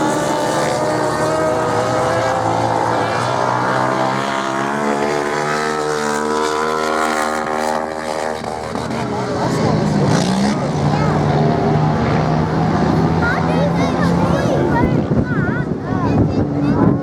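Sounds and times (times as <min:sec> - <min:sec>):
race motorcycle engines revving: 0:00.0 - 0:17.0.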